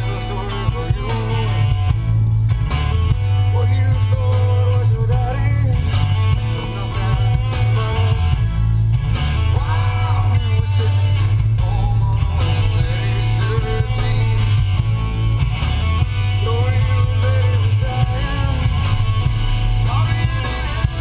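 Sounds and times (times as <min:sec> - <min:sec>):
person singing: 0:00.0 - 0:01.8, 0:03.4 - 0:08.4, 0:09.4 - 0:15.2, 0:16.3 - 0:21.0
heavy bass: 0:00.0 - 0:21.0
rock song with guitar: 0:00.0 - 0:21.0.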